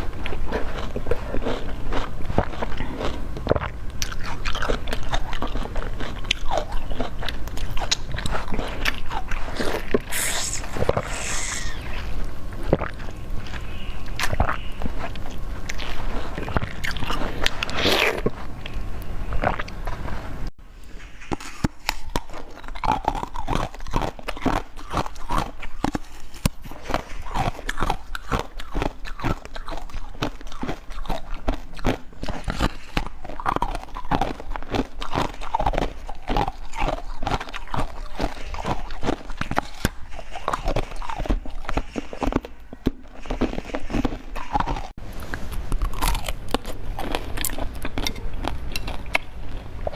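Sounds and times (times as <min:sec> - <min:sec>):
crunchy bites and chewing: 0:00.0 - 0:20.1, 0:21.1 - 0:49.9.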